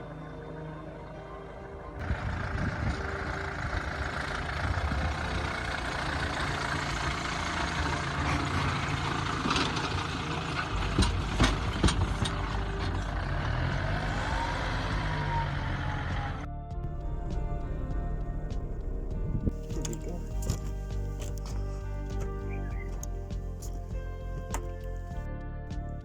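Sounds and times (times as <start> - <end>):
road noise: 0.0 - 25.2
van engine rumble: 2.0 - 26.0.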